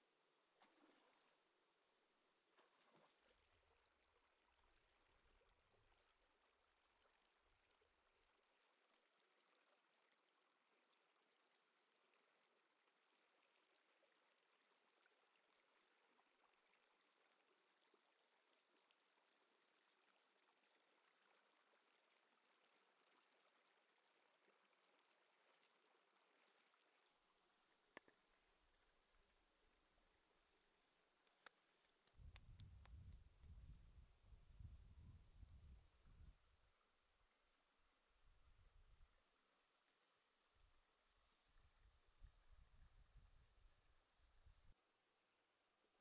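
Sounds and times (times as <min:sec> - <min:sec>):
faint running water of stream: 0:00.0 - 0:46.0.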